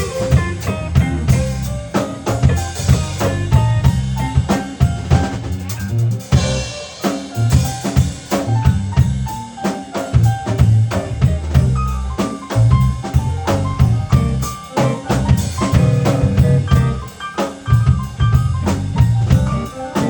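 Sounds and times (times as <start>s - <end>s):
bass line: 0.0s - 9.5s, 10.2s - 20.0s
electronic keyboards playing: 0.0s - 20.0s
steady drum beat: 0.0s - 20.0s.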